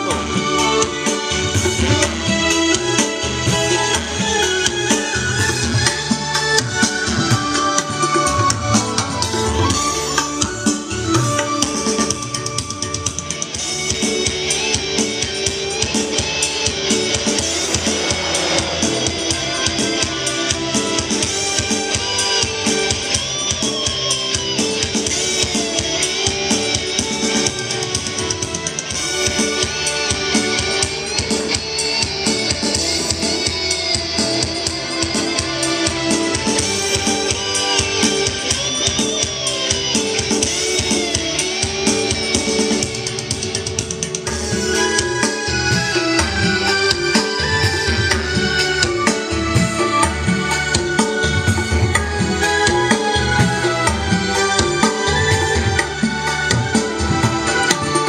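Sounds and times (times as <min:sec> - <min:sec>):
loud music with drum beat: 0:00.0 - 0:58.0.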